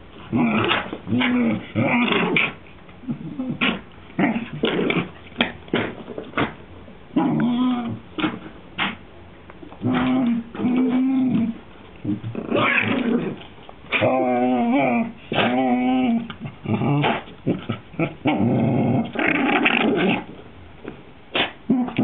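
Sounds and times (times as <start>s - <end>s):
dog growling: 0.2s - 9.0s, 9.8s - 20.4s, 21.4s - 22.0s.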